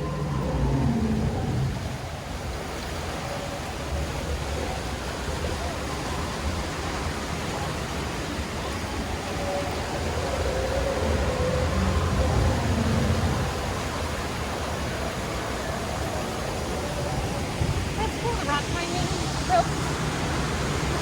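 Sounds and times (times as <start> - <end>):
whitewater rapids rushing: 0.0 - 21.0.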